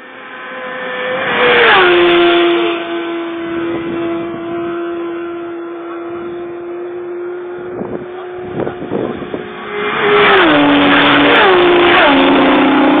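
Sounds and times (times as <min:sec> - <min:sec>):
racing motorcycle engine revving: 0:00.0 - 0:13.0.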